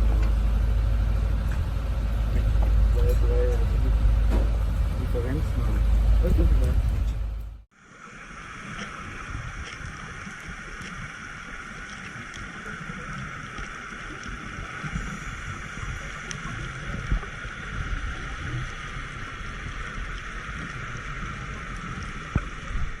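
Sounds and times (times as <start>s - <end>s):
low uneven rumbling: 0.0s - 23.0s
water sloshing around boat: 0.0s - 23.0s.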